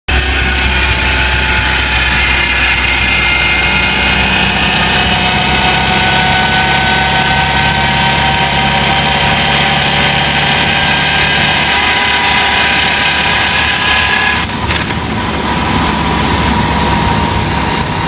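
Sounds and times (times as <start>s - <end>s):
car engine idling: 0.1s - 18.0s
high whining tones: 0.1s - 18.0s.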